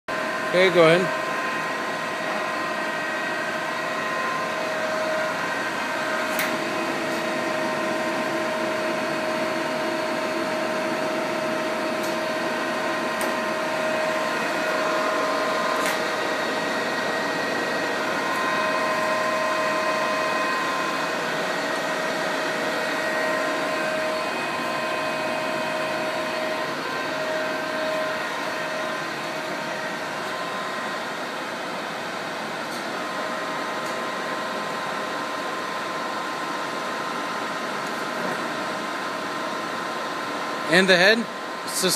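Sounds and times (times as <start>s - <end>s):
machine whine: 0.1s - 41.9s.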